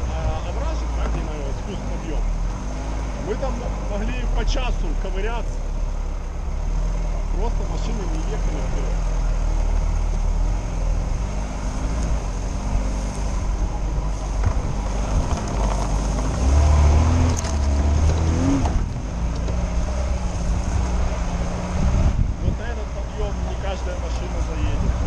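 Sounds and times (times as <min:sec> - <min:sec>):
car engine running off-road: 0:00.0 - 0:25.0.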